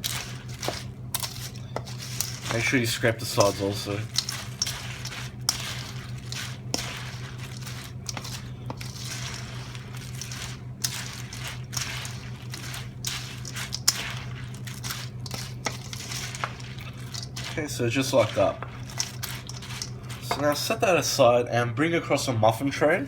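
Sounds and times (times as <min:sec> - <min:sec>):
cornflakes stirred in bowl: 0:00.0 - 0:21.4
steady low hum: 0:00.0 - 0:23.0.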